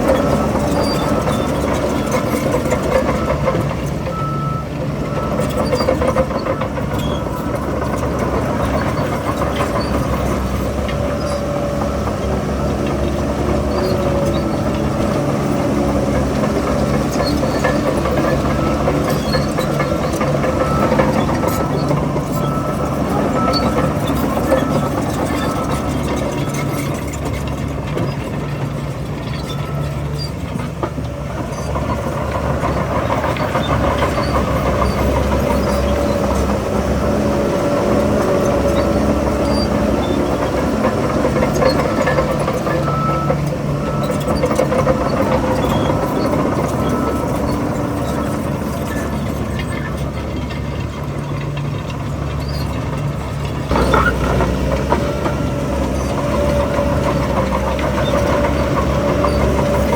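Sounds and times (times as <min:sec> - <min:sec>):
bulldozer diesel engine running: 0:00.0 - 0:59.9
crawler tracks clattering: 0:00.0 - 0:59.9.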